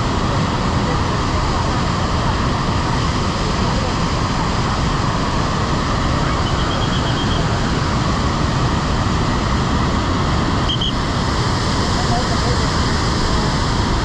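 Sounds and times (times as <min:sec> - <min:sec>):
water rushing over waterfall: 0:00.0 - 0:14.0.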